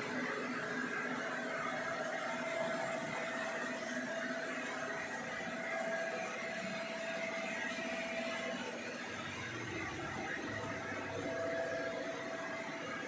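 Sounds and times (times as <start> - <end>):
steady mechanical whir: 0.0 - 13.0.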